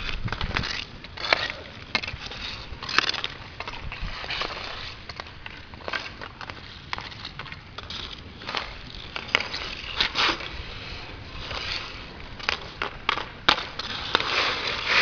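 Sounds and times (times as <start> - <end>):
hockey sticks striking puck: 0.0 - 15.0
skates rolling and scraping: 0.0 - 15.0.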